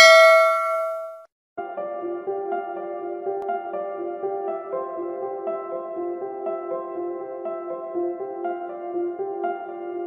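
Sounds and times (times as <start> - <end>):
slow mellow instrumental music: 1.6 - 10.0.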